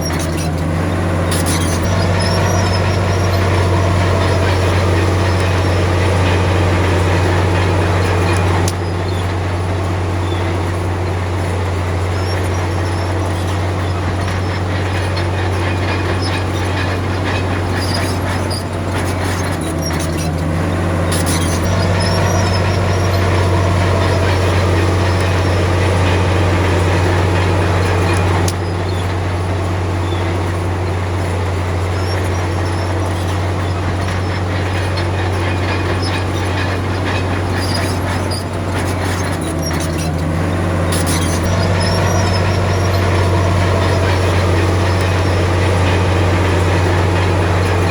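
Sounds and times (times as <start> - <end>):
bulldozer diesel engine running: 0.0 - 47.9
steel tracks squeaking and clanking: 0.0 - 47.9.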